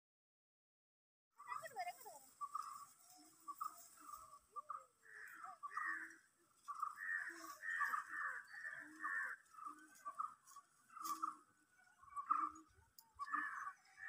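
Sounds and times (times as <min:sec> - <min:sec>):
birds giving harsh rasping calls: 0:01.4 - 0:14.0.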